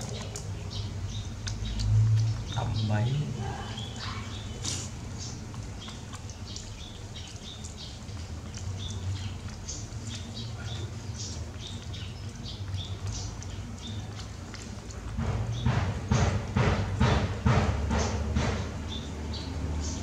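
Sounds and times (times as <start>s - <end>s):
monkey chewing corn crunches: 0.0s - 18.6s.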